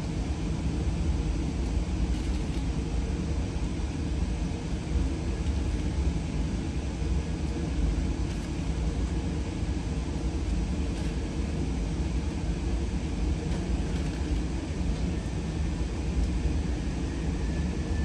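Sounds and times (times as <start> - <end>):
faint hum: 0.0 - 18.0
ventilation rumble and hiss: 0.0 - 18.0.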